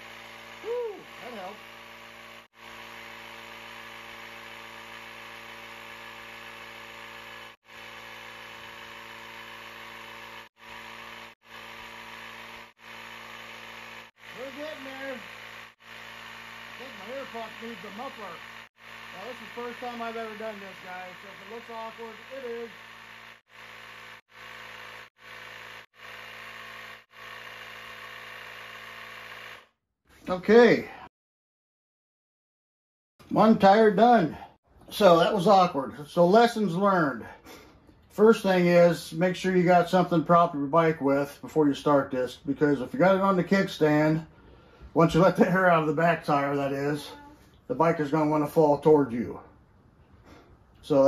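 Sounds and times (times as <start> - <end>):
tire inflator compressor humming: 0.0 - 31.0, 33.3 - 49.1.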